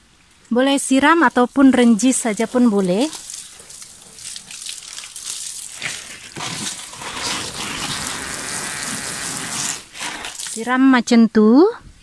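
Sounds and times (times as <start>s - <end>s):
water splashing onto soil: 1.0s - 10.8s.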